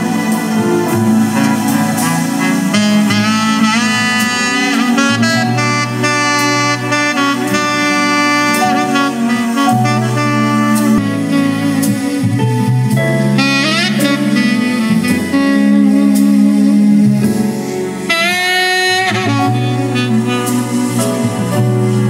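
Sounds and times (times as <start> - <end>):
slow jazz ballad: 0.0 - 22.0.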